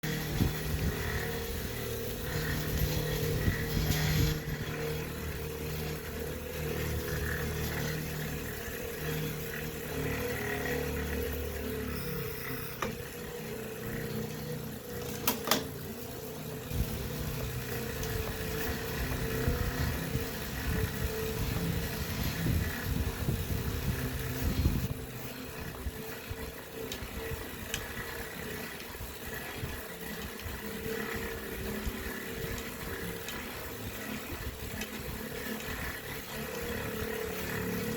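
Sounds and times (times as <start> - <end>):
bike trainer mechanical whir: 0.0 - 37.9.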